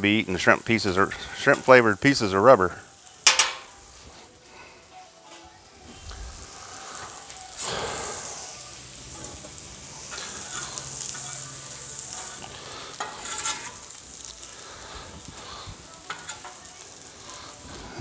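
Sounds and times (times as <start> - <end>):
shrimp and vegetables sizzling on griddle: 0.0 - 18.0.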